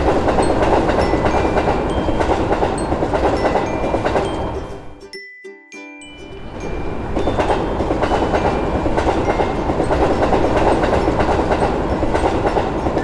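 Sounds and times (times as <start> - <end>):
train running on rails: 0.0 - 5.0, 6.1 - 13.0.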